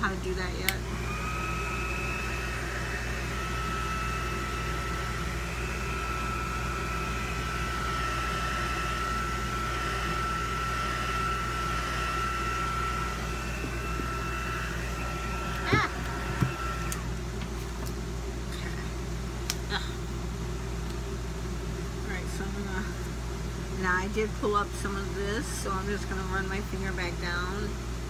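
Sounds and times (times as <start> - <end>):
heat tool fan whining: 0.0 - 28.0.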